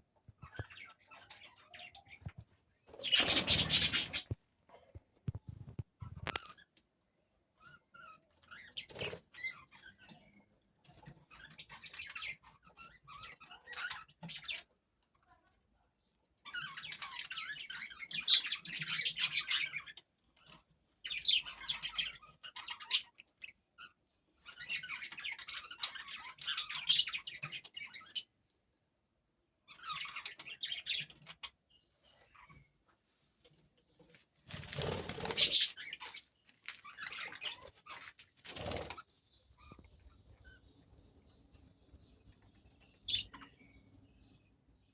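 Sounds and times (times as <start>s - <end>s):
lovebirds chattering and squabbling: 0.2s - 44.9s.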